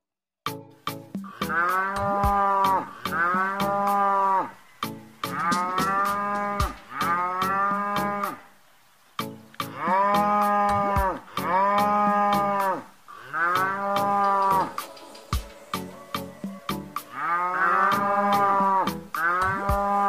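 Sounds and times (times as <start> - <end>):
cow mooing: 1.3 - 4.6, 5.3 - 8.5, 9.6 - 20.0.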